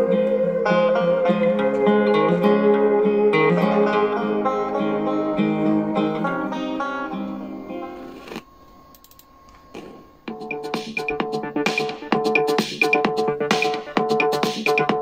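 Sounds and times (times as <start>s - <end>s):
plucked instrumental music from small speaker: 0.0s - 8.4s, 10.3s - 15.0s.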